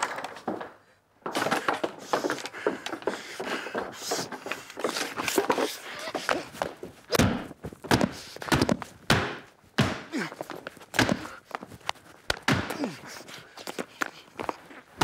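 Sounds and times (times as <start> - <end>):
running footsteps on wooden boardwalk: 0.4 - 15.0.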